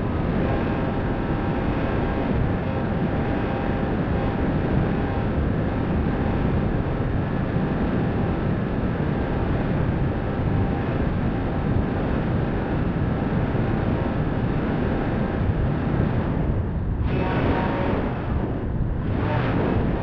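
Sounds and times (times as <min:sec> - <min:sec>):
electric motor and propeller hum: 0:00.0 - 0:20.0
wind rushing over microphone: 0:00.0 - 0:20.0.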